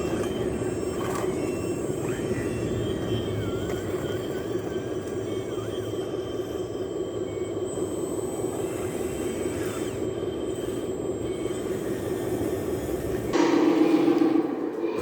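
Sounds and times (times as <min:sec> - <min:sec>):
model vehicle mechanical hum: 0:00.0 - 0:13.4.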